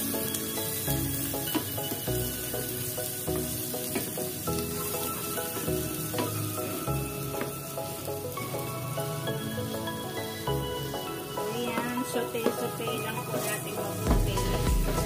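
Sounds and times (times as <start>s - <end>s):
background music: 0.0s - 15.0s
onions sizzling in hot oil: 0.0s - 15.0s.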